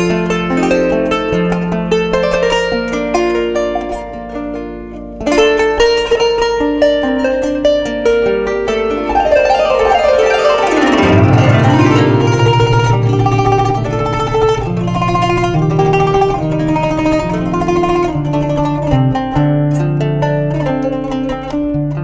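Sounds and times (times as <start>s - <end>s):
plucked zither melody: 0.0s - 22.0s.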